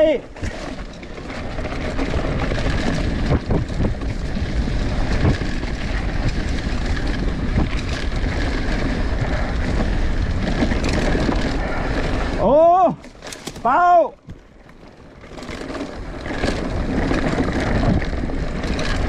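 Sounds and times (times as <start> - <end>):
wind buffeting microphone: 0.0 - 13.7, 15.2 - 19.0
bike knocks and rattles: 0.0 - 19.0
bike tyres on dirt trail: 0.0 - 19.0.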